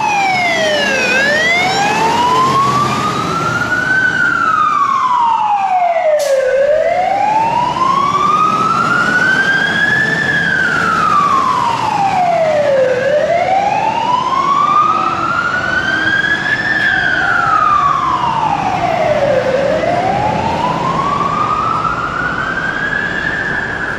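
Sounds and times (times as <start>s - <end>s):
fire truck siren wailing: 0.0s - 23.9s.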